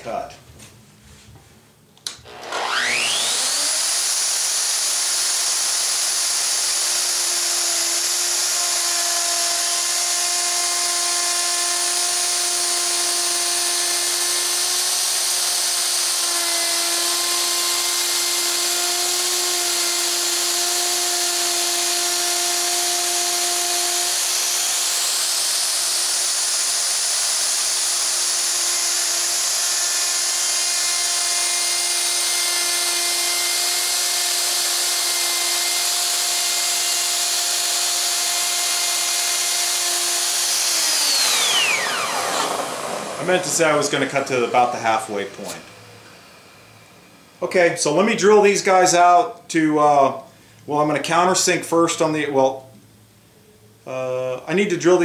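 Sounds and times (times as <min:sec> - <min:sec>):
router whining while cutting wood: 0:02.1 - 0:47.5.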